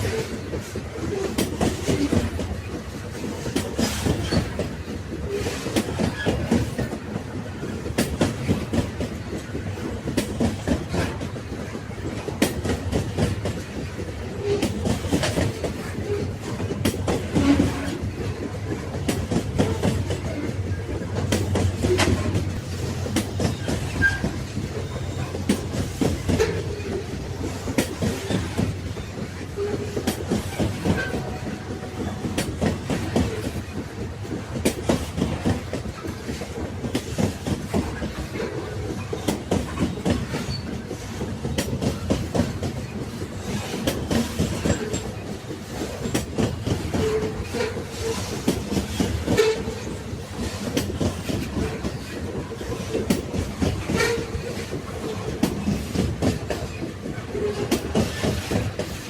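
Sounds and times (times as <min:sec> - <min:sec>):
railway wagons rumbling: 0:00.0 - 0:59.0.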